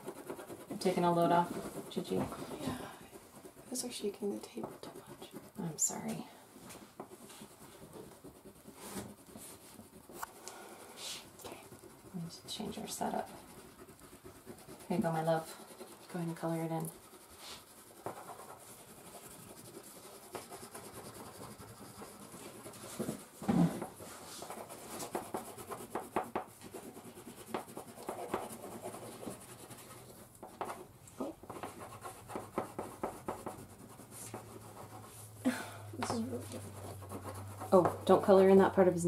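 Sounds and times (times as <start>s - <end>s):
crayons scribbling on paper: 0.0s - 35.3s, 36.0s - 39.0s.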